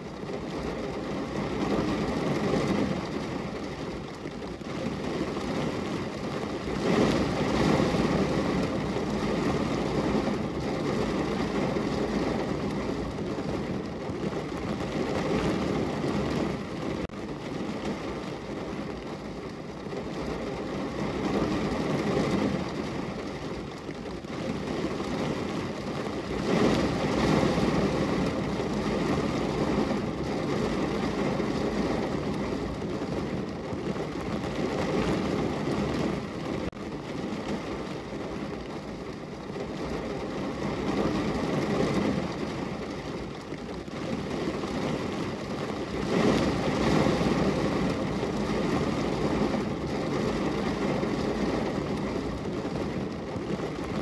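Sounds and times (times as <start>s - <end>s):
rain falling on a window: 0.0s - 54.0s.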